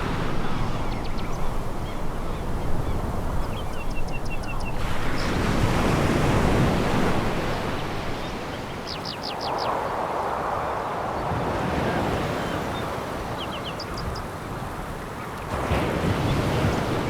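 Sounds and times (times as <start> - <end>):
waves on a pebble beach: 0.0 - 17.0.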